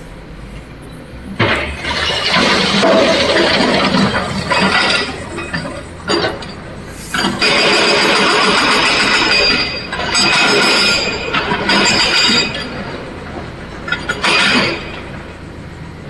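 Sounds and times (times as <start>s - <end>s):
excavator engine working: 0.0s - 16.0s.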